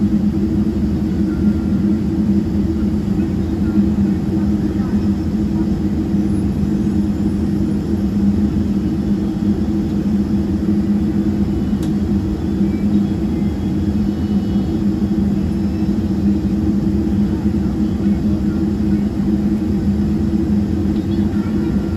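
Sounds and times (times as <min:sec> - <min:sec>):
jet engines idling from cabin: 0:00.0 - 0:21.9.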